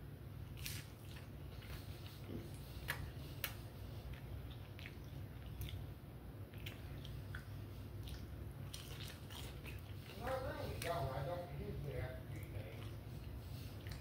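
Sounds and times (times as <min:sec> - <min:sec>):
low steady hum: 0:00.0 - 0:14.0
person chewing food: 0:00.4 - 0:11.1, 0:12.3 - 0:14.0.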